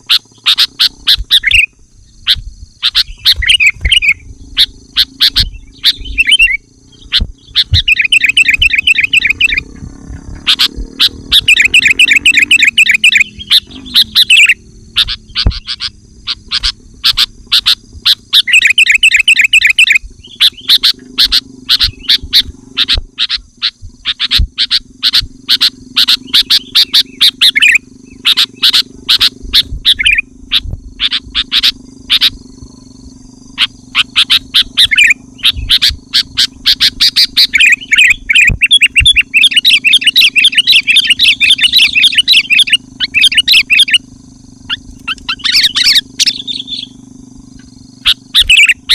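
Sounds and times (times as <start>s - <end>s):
bulbul chattering: 0.0s - 48.9s
faint low hum: 0.0s - 48.9s.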